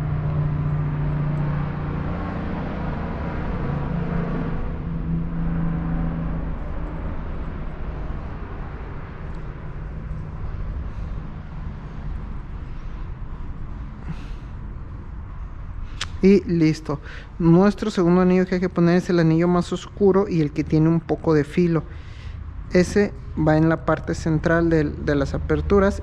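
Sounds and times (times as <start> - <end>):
engine hum: 0.0 - 26.0
vehicle engine rumbling: 0.0 - 26.0.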